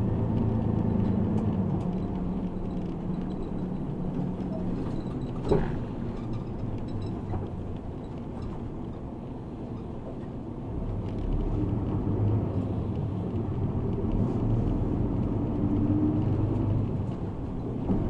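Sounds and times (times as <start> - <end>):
bus engine humming: 0.0 - 18.0.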